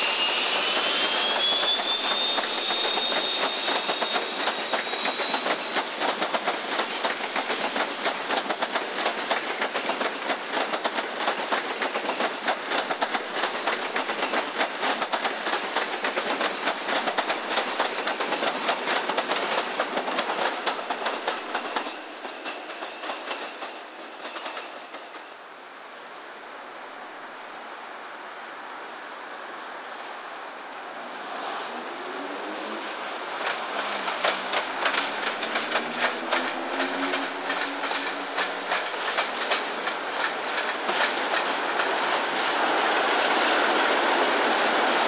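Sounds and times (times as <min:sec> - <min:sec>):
train wheels clattering over rail joints: 0:00.1 - 0:25.3, 0:32.8 - 0:45.0.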